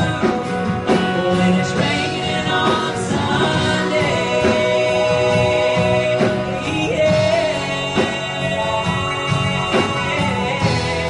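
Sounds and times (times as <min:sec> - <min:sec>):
country band playing: 0:00.0 - 0:11.0.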